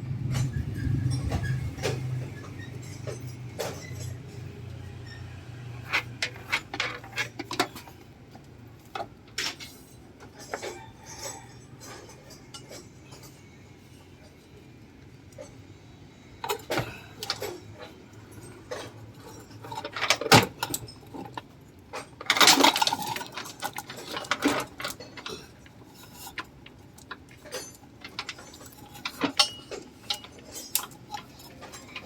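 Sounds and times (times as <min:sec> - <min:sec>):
metal tools clinking and knocking: 0:00.2 - 0:13.6, 0:16.4 - 0:32.0.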